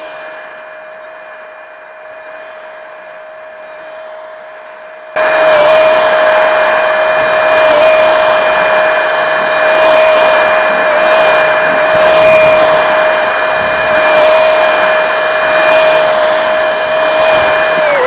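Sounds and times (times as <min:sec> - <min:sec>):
skid steer engine whining: 0:00.0 - 0:18.0.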